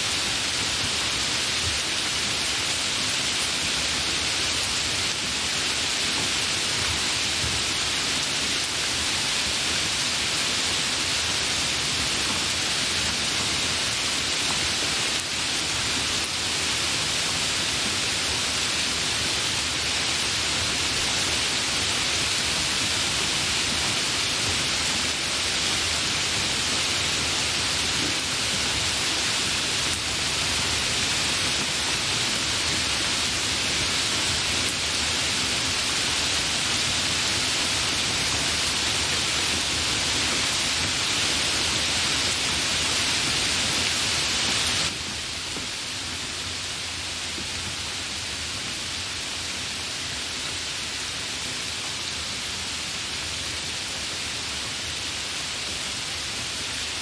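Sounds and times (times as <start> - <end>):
hard rain falling: 0.0 - 57.0.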